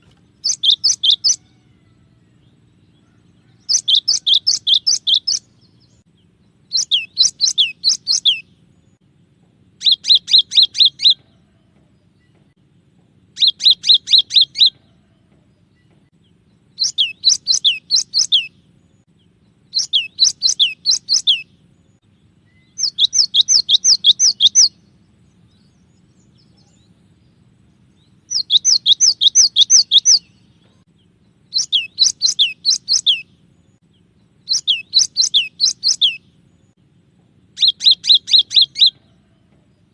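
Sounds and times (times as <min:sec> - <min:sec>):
bird singing whistled notes: 0:00.4 - 0:09.0, 0:09.8 - 0:11.3, 0:13.4 - 0:15.0, 0:16.6 - 0:19.0, 0:19.6 - 0:36.8, 0:37.5 - 0:39.4.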